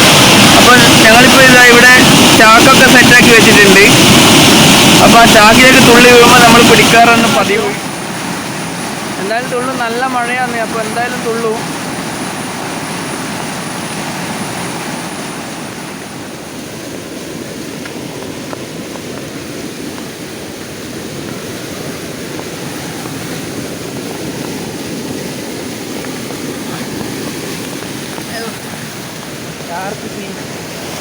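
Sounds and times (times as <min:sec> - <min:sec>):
heavy rain: 0:00.0 - 0:31.0
water gushing from a pipe: 0:00.0 - 0:31.0.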